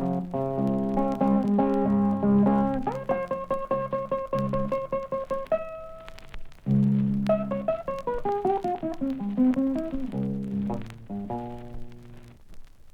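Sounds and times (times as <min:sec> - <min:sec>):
blues guitar playing: 0:00.0 - 0:12.4.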